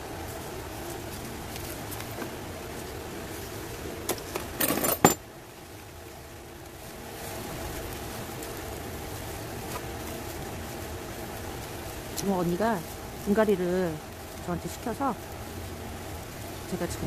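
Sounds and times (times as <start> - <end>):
plastic pot and soil crackling: 0.0 - 4.6, 5.6 - 17.0
steady low hum: 0.0 - 17.0.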